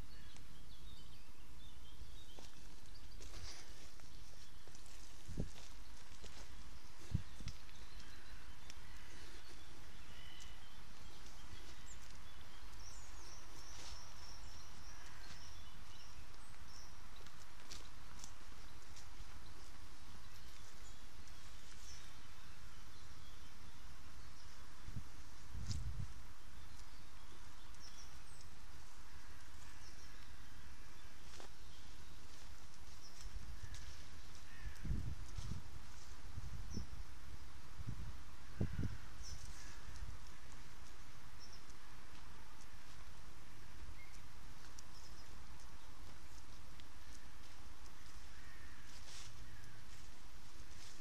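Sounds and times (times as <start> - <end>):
birds chirping: 0.0 - 51.0
outdoor background hiss: 0.0 - 51.0.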